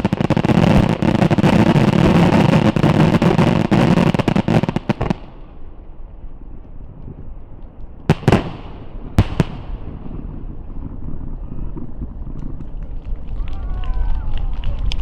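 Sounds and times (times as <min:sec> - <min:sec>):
loud fireworks booms with echo: 0:00.0 - 0:13.2
fireworks bursts and crackle: 0:00.0 - 0:15.0.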